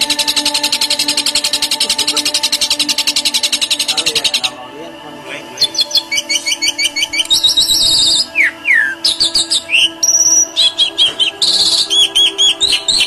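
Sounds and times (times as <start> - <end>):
caged bird calling: 0.0 - 13.0.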